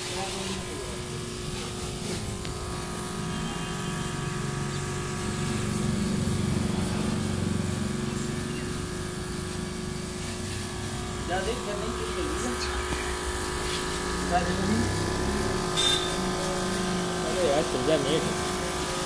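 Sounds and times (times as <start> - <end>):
electric pump humming: 0.0 - 19.0.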